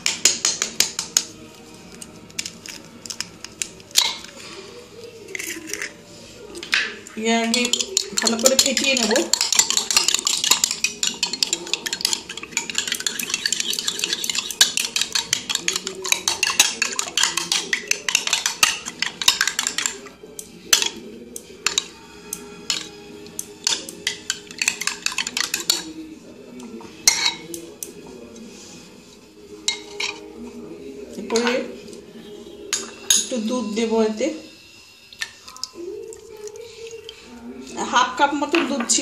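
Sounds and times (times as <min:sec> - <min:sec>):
spoon beating eggs in a bowl: 0:00.0 - 0:33.4, 0:35.0 - 0:39.0.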